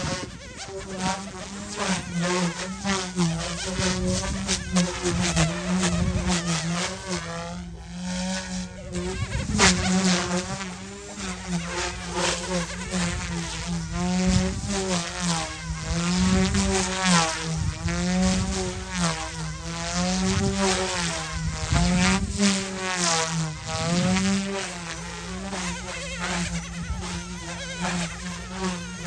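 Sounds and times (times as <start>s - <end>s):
toy helicopter buzzing whine: 0.0s - 29.0s.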